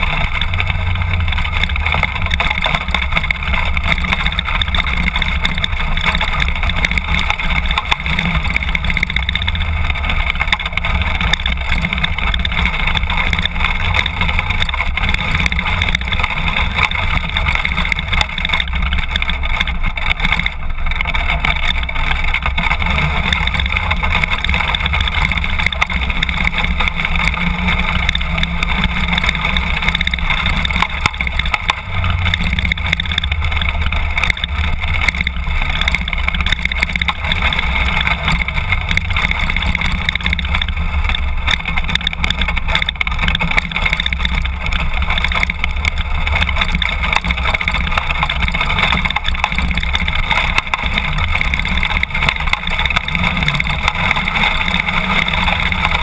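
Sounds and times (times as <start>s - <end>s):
motorcycle engine running: 0.0s - 56.0s
tyres on gravel: 0.0s - 56.0s.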